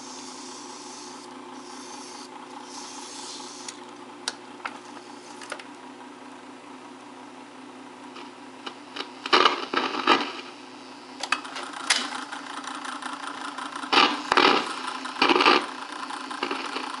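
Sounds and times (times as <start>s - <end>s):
tape recorder motor hum: 0.0s - 17.0s.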